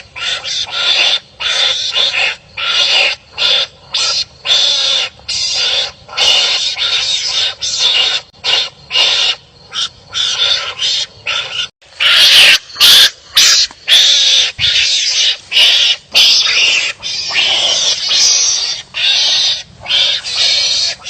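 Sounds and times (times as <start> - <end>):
animals rasping barks: 0.0 - 21.0.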